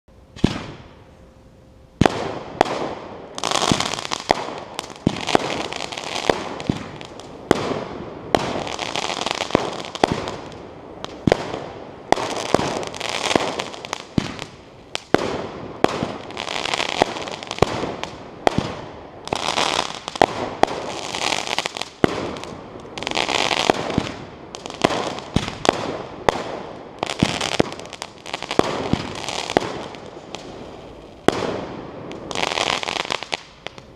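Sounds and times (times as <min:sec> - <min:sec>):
firework bangs: 0:00.4 - 0:01.0, 0:02.0 - 0:33.9
crackling hiss of bursting stars: 0:02.0 - 0:33.9.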